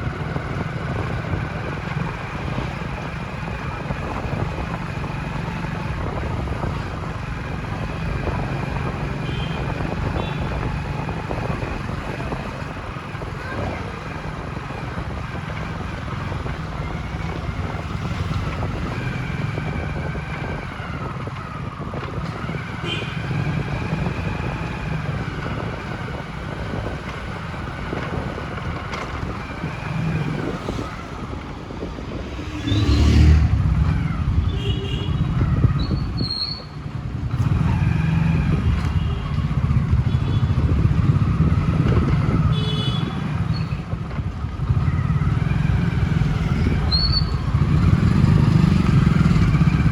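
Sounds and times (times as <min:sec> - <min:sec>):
passing traffic: 0:00.0 - 0:49.9
vehicle engine and road noise: 0:00.0 - 0:49.9.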